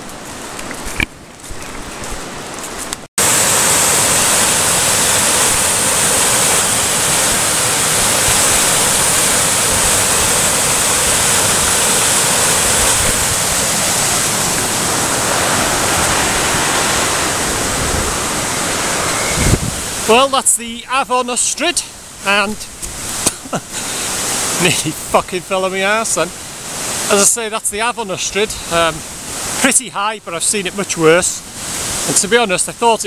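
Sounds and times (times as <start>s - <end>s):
loud rush of river water: 1.8s - 33.0s.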